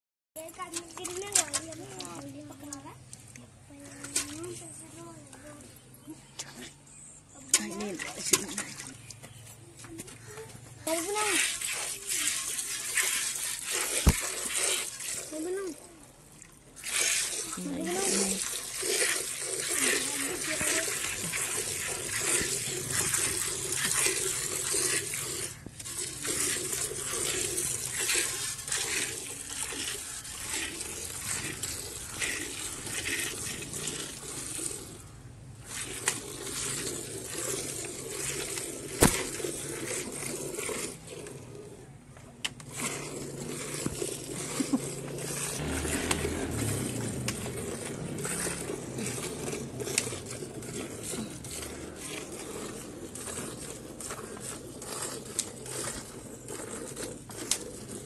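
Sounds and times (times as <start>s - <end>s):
milk squirting into steel pail: 0.4s - 5.9s, 7.3s - 9.3s, 10.1s - 58.0s.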